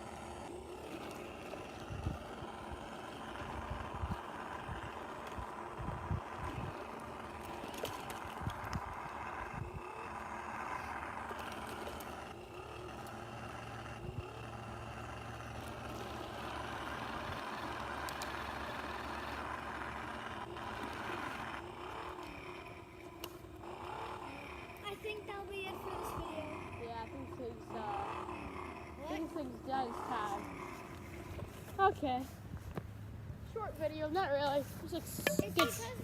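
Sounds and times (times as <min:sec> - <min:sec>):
radio-controlled truck running: 0:00.0 - 0:36.0.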